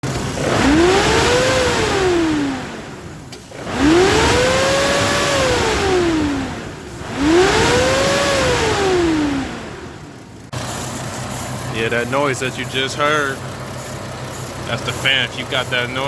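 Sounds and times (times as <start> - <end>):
car engine revving: 0.0 - 16.0
cooling fan wind rush and whine: 0.0 - 16.0.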